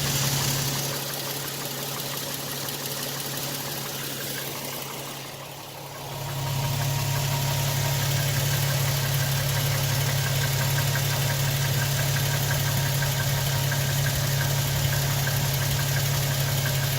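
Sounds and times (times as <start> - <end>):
engine running with knocking tick: 0.0 - 16.9.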